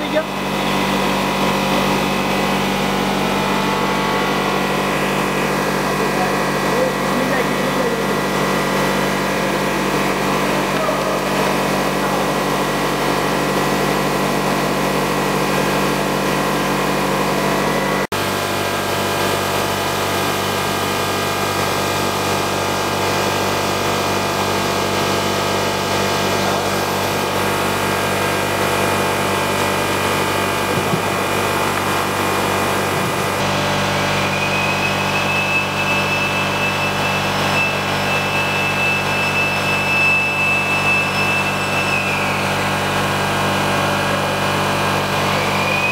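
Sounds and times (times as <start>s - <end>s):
factory machinery hum: 0.0s - 45.9s.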